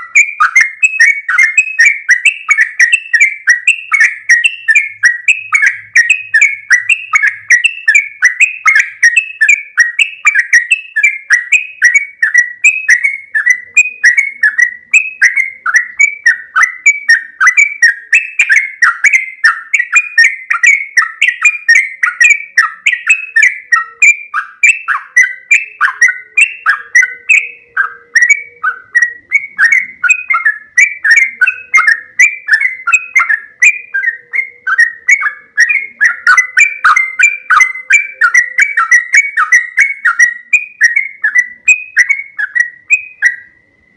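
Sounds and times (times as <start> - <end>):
bird singing bubbling notes: 0.0 - 43.9.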